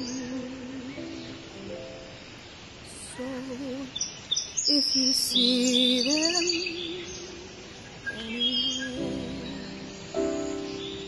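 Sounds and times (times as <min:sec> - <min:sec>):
woman singing with vibrato: 0:00.0 - 0:01.6, 0:02.9 - 0:10.2
bird chirps and trills: 0:00.0 - 0:11.0.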